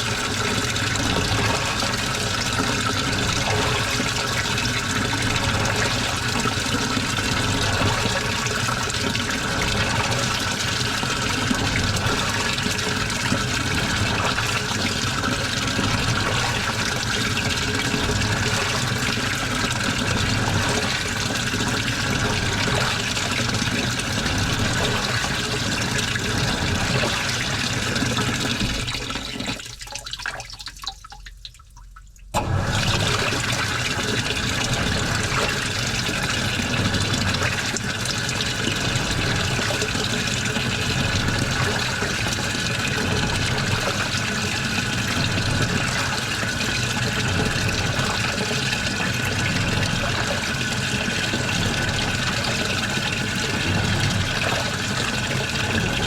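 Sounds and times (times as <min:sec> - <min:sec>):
water rushing in washing machine: 0:00.0 - 0:56.0.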